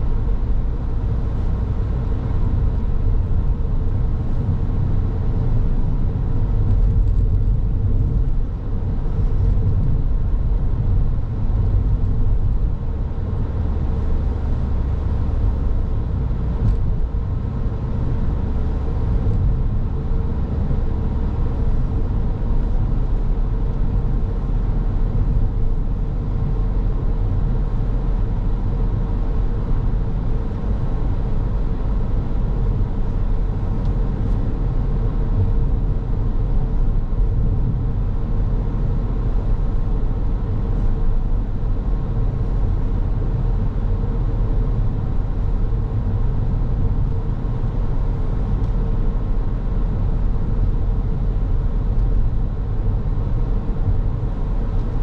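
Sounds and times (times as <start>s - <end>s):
car tyres and engine rumbling: 0.0s - 55.0s.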